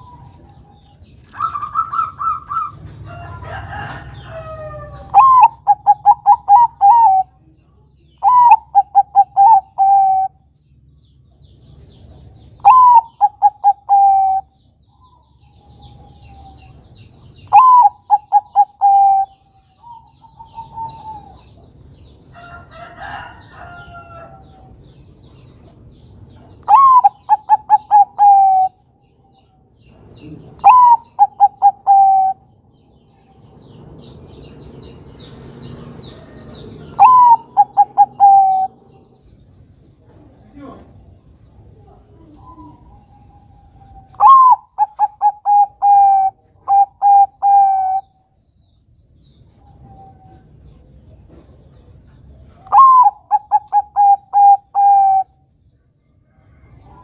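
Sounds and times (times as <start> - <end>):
dove cooing song: 0.0 - 7.5, 8.1 - 10.5, 12.0 - 24.7, 25.7 - 34.4, 35.7 - 39.4, 41.5 - 48.4, 49.4 - 55.6
small birds chirping faintly: 0.0 - 57.0.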